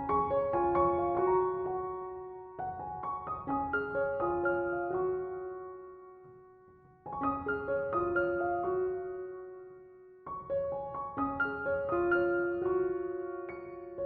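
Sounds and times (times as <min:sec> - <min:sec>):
gentle solo piano: 0:00.0 - 0:14.0.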